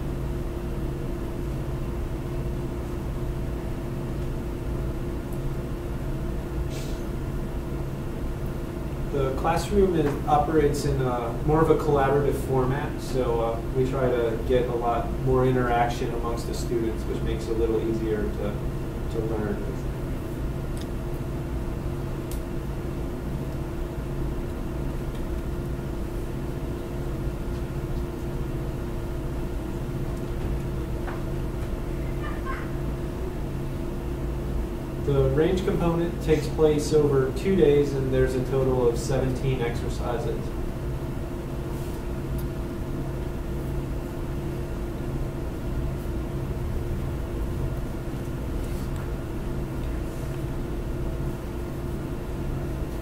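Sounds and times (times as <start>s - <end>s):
low room hum and rumble: 0.0s - 53.0s.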